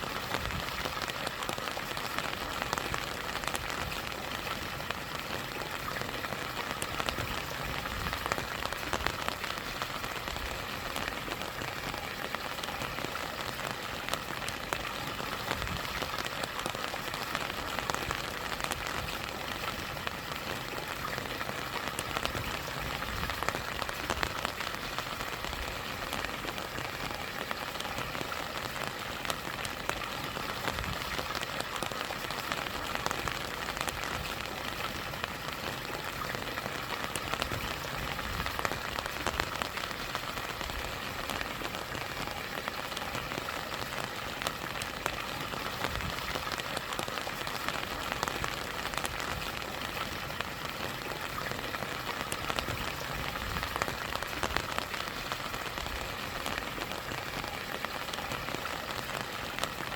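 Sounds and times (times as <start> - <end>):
rain drops hitting: 0.0 - 59.9.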